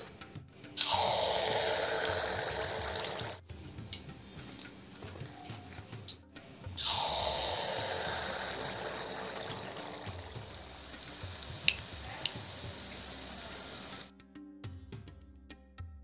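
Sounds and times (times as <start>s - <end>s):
oil popping: 0.0s - 6.2s, 6.8s - 14.1s
batter sizzling in hot oil: 0.8s - 14.1s.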